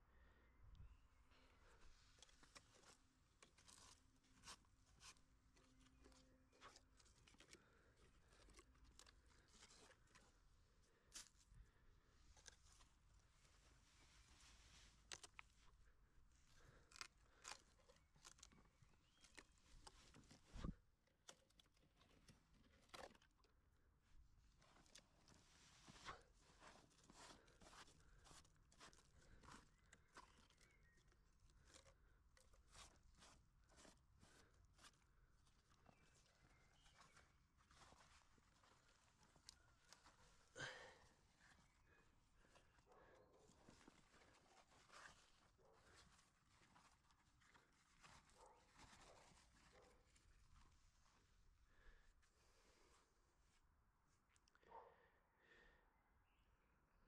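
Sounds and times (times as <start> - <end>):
hand crunching garden soil: 1.6 - 11.6, 12.2 - 23.7, 24.3 - 51.4.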